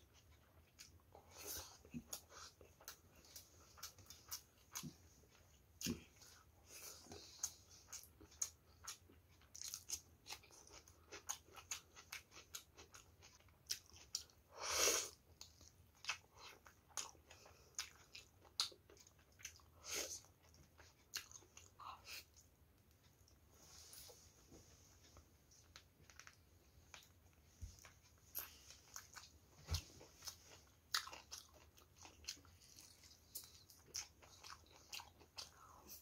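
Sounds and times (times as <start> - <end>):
person chewing food: 0.0 - 24.2, 24.8 - 36.0.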